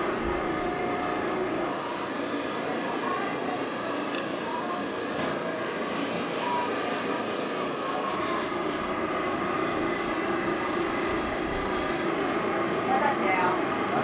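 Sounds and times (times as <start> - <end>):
faint voices: 0.0 - 14.0
street food stall roaring: 0.0 - 14.0.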